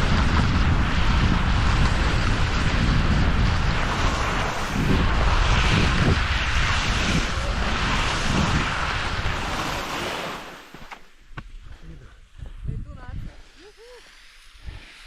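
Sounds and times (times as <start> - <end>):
skis hissing on snow: 0.0 - 11.2, 11.8 - 15.0
wind rushing over microphone: 0.0 - 13.7.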